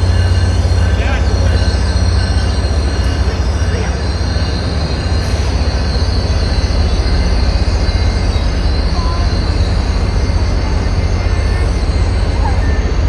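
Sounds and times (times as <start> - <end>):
train rumbling past: 0.0 - 13.0
wheels squealing on rails: 0.0 - 13.0.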